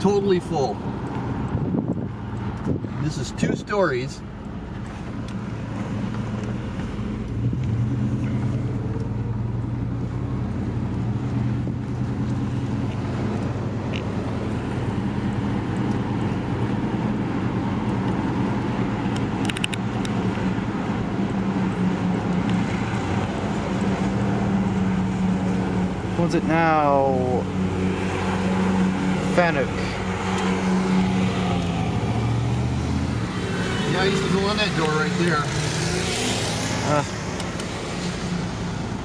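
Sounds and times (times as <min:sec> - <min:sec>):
car engine hum: 0:00.0 - 0:39.0
road noise: 0:00.0 - 0:39.0.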